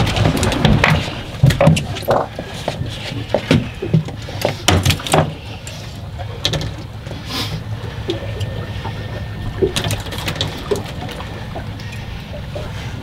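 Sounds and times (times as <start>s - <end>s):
boat engine low hum: 0.0s - 13.0s.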